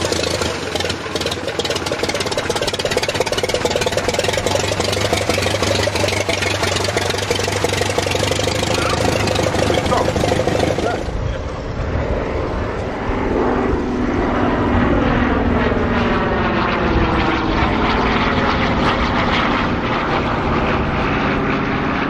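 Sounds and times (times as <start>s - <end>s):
propeller aircraft engine running: 0.0s - 22.0s.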